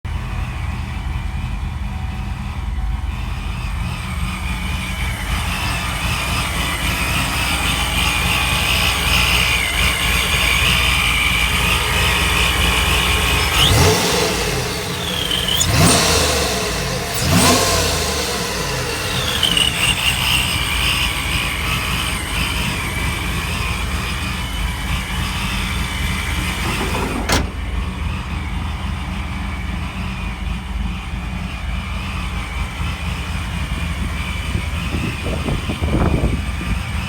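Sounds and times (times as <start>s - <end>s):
pickup engine idling and revving: 0.0s - 37.0s
supercharger whine: 0.1s - 37.0s.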